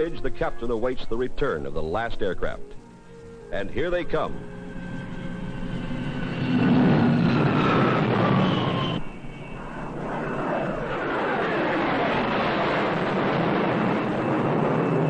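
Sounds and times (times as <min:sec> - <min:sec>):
jet engines passing low: 0:00.0 - 0:15.0.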